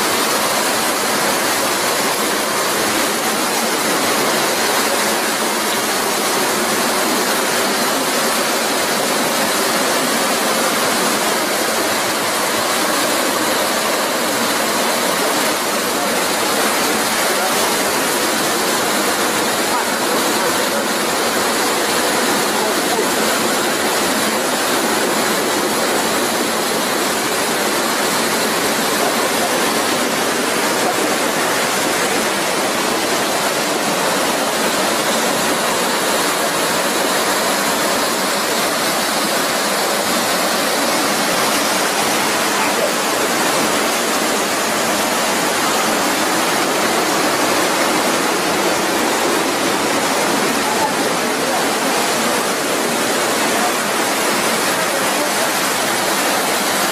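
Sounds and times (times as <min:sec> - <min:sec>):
waterfall rushing into pool: 0:00.0 - 0:56.9.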